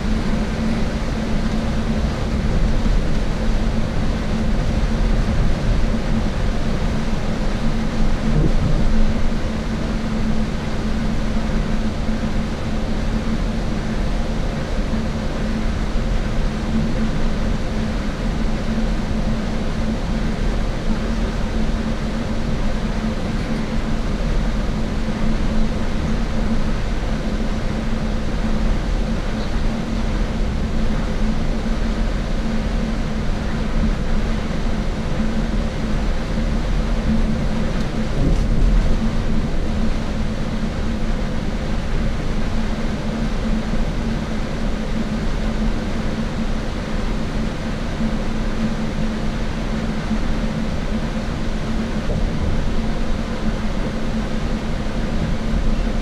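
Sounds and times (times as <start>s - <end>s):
bus engine and road noise: 0.0s - 56.0s
constant low hum: 0.0s - 56.0s.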